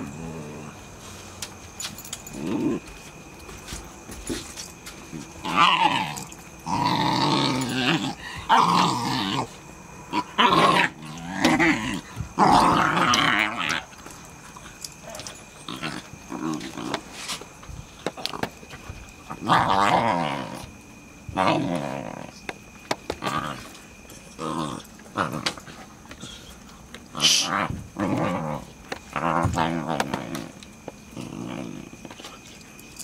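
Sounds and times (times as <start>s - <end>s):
puppies growling: 0.0s - 0.9s, 2.2s - 3.0s, 5.1s - 17.4s, 19.2s - 22.5s, 23.1s - 32.3s.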